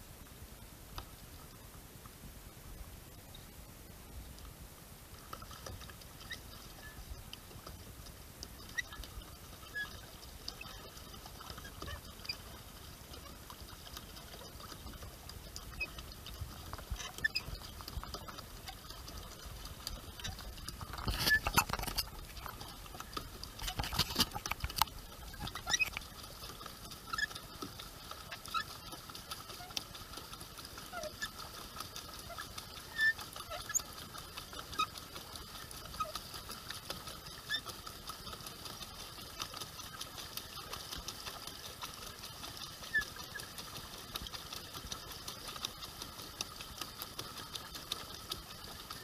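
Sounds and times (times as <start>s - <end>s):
water lapping against hull: 0.0s - 49.0s
light ticks and drips: 0.9s - 49.0s
water splashing: 3.6s - 49.0s.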